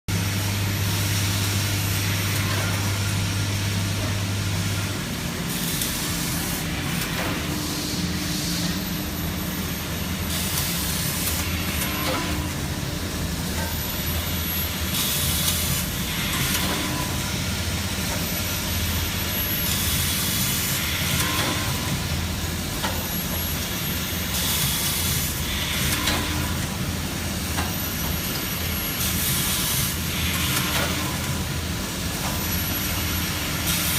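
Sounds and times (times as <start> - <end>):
machine hiss: 0.1 - 33.9
welding machine humming: 0.1 - 33.9.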